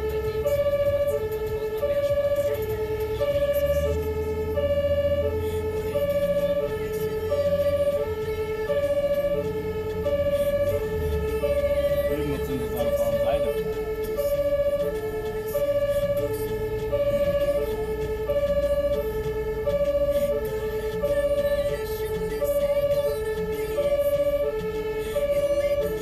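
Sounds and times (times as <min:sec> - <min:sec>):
two-tone emergency siren: 0:00.0 - 0:26.0
vehicle engine and road rumble: 0:00.0 - 0:26.0.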